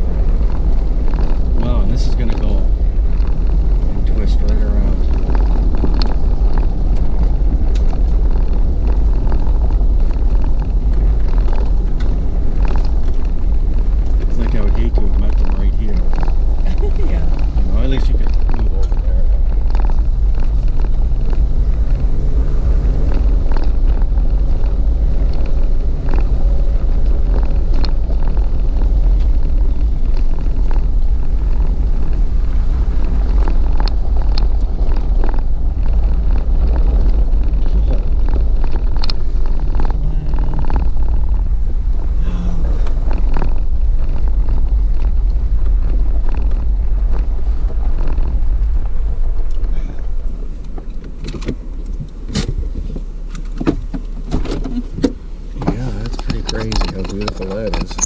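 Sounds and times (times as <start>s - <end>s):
engine and tyres rumbling: 0.0s - 58.0s
vehicle knocks and rattles: 0.0s - 58.0s.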